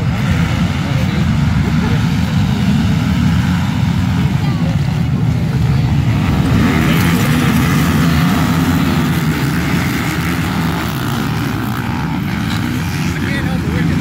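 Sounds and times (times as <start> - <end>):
quad bikes racing past: 0.0 - 14.0.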